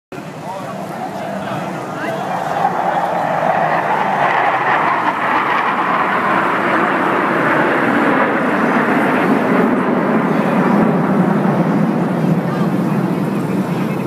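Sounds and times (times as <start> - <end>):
jet engine roar: 0.1 - 14.0.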